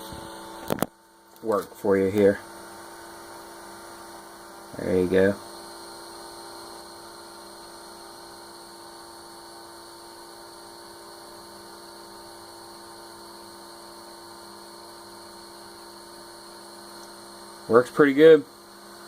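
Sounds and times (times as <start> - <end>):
cooling fan humming: 0.0 - 19.0.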